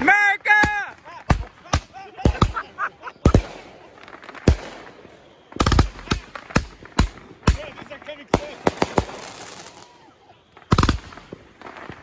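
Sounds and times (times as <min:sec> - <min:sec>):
firework booms with echo: 0:01.3 - 0:10.0, 0:10.6 - 0:12.0.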